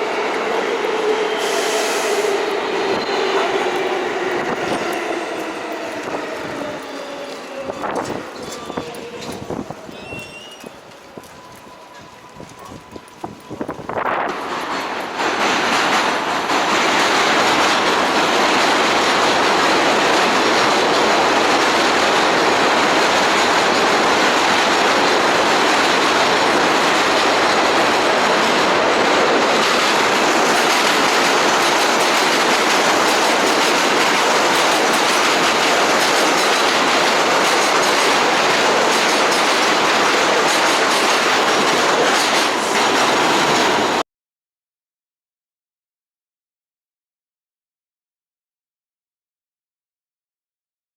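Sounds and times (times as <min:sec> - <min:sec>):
subway train wheels on track: 0:00.0 - 0:44.0.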